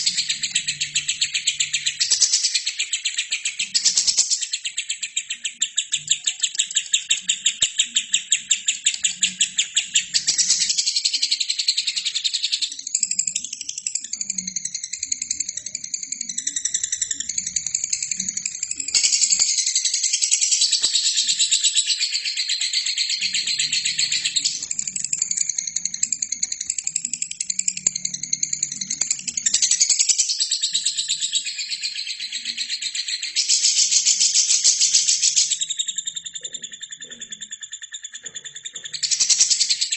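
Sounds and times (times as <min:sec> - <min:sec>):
fast bird trills: 0:00.0 - 0:39.9
lovebird chattering: 0:00.0 - 0:39.9.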